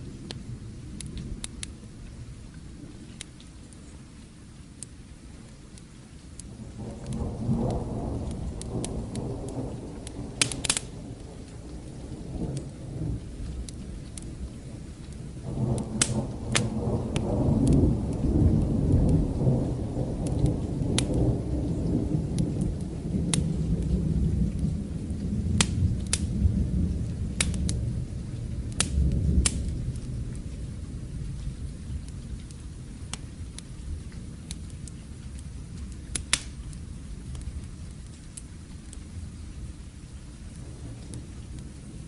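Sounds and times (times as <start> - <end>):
steady rain: 0.0 - 42.0
wood fire crackling: 0.0 - 42.0
distant thunder rolling: 6.4 - 34.7, 35.3 - 42.0.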